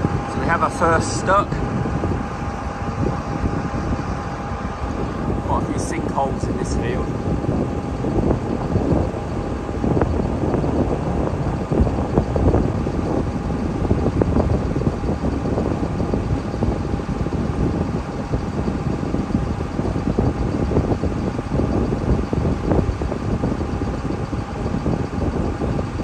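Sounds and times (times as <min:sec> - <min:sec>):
faint constant hum: 0:00.0 - 0:26.0
loud mechanical running noise: 0:00.0 - 0:26.0.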